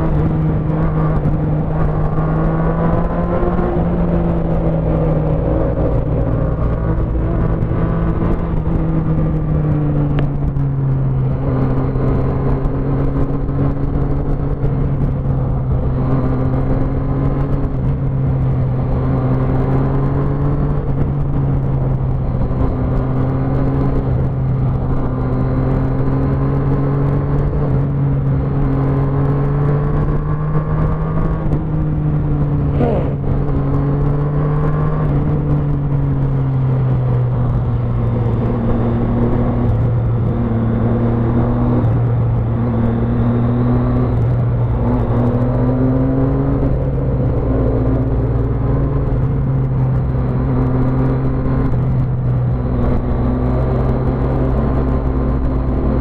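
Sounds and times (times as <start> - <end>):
motorcycle engine cruising: 0.0 - 56.0
wind noise: 0.0 - 56.0.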